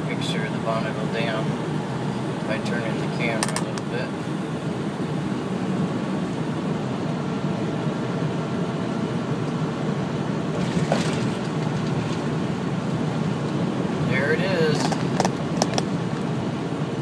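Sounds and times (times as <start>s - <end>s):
truck cab engine and road drone: 0.0s - 17.0s.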